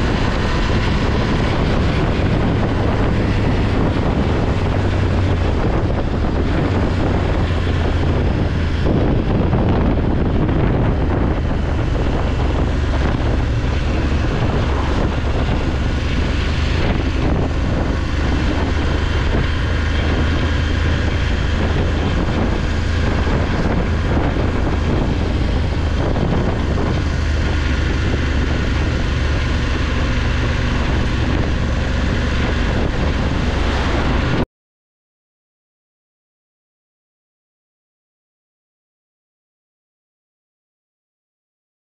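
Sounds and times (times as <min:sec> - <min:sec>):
motorcycle engine droning: 0:00.0 - 0:34.4
wind buffeting microphone: 0:00.0 - 0:34.5.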